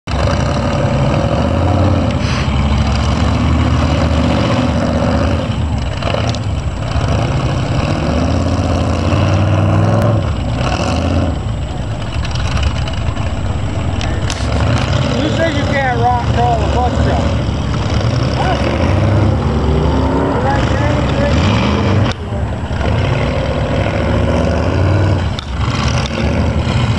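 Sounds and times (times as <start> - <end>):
truck engines revving: 0.0 - 26.9.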